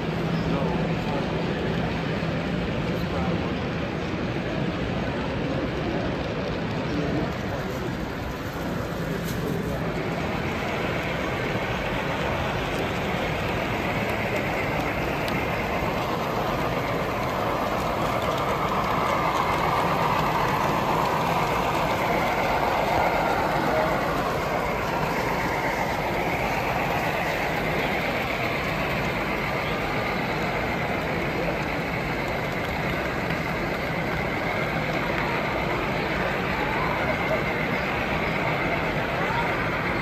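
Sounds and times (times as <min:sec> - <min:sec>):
model train running: 0:00.0 - 0:40.0.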